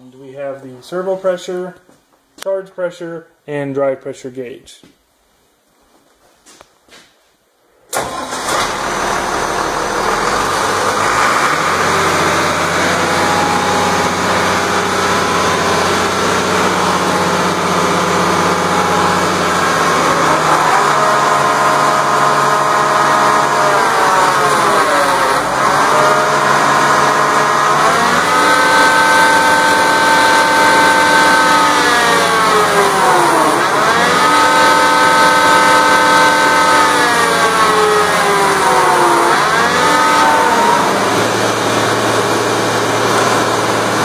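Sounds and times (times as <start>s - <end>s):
tractor transmission drone: 7.9s - 44.0s.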